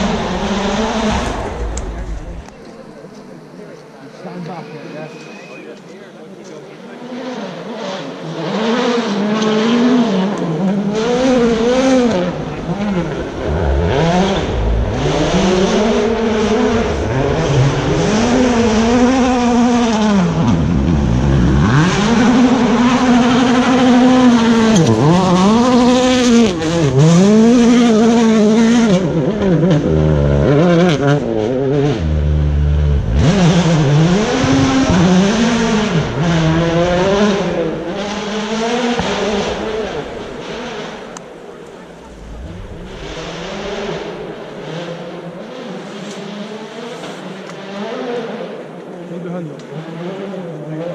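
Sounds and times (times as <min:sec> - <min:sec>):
rally car engine revving past: 0:00.0 - 0:02.6, 0:07.0 - 0:50.9.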